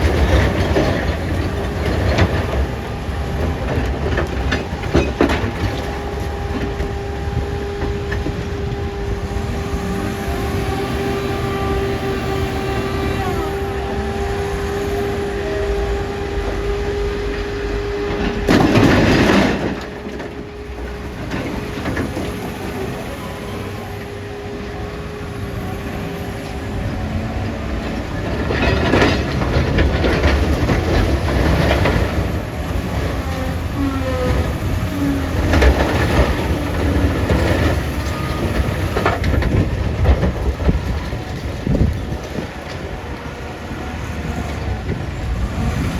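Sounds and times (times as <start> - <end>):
loader engine running under load: 0.0 - 45.9
steady engine whine: 0.0 - 45.9.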